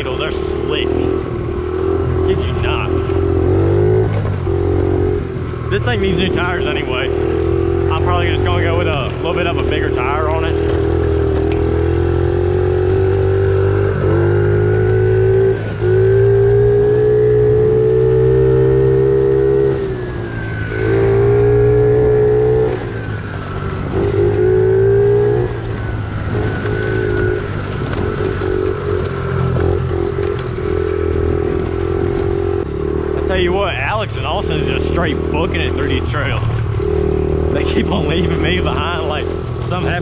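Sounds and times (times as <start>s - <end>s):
pit bike engine revving: 0.0s - 40.0s.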